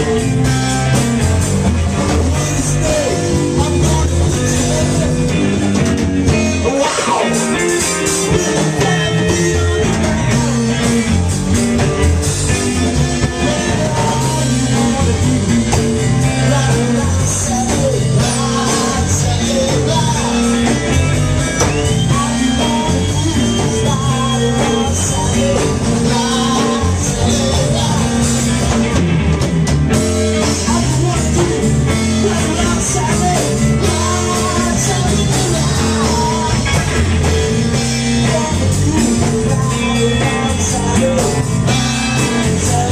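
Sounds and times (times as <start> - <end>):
bass guitar: 0.0 - 42.9
drum kit: 0.0 - 42.9
electric guitar: 0.0 - 42.9
person singing: 1.9 - 5.6, 6.2 - 11.4, 12.8 - 28.8, 30.4 - 42.9.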